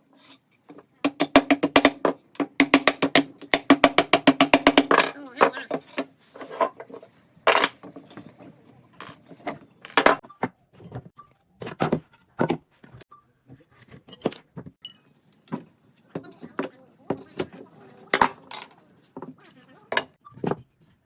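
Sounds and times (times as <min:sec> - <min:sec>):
tools knocking and clinking: 0:00.2 - 0:12.6, 0:14.1 - 0:20.6.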